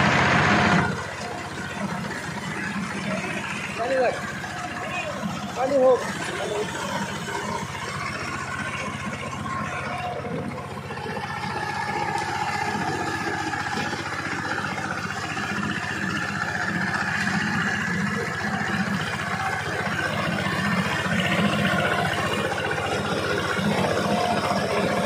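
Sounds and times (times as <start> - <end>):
diesel engine chugging: 0.0 - 25.0
tiller churning mud: 0.0 - 25.0.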